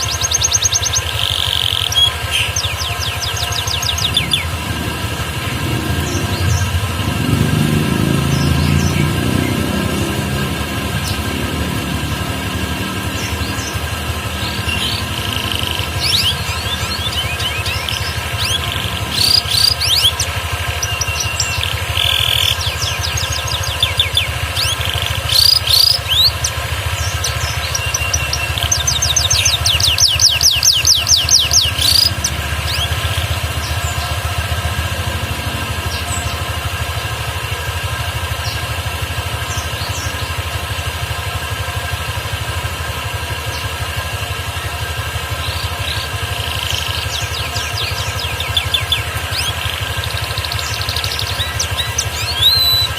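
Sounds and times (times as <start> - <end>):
canary chirping and trilling: 0.0 - 52.9
steady mechanical hum: 0.0 - 52.9.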